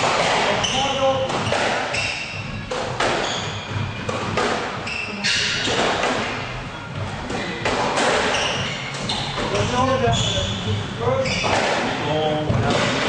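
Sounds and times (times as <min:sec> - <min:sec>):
shoes squeaking on wooden floor: 0:00.0 - 0:13.0.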